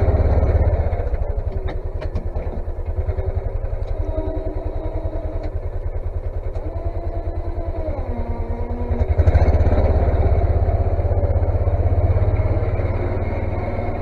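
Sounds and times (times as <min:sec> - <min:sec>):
engine running with pulsing beat: 0:00.0 - 0:14.0.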